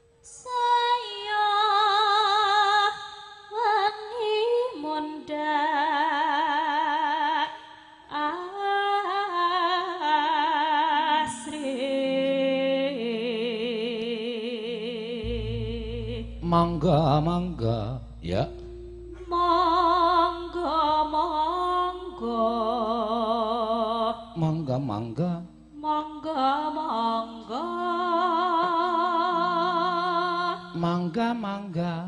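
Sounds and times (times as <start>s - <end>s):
woman singing slow ornamented solo: 0.0s - 32.0s.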